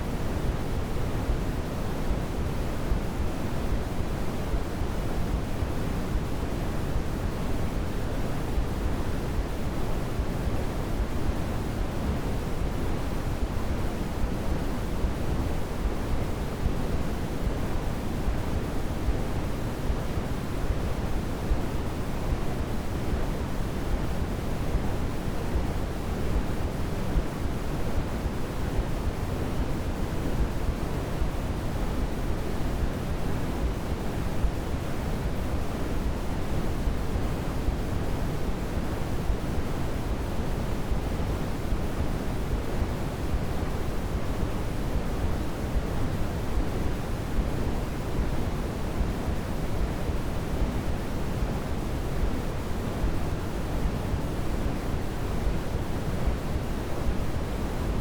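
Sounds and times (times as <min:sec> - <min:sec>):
low pink noise hush: 0:00.0 - 0:58.0.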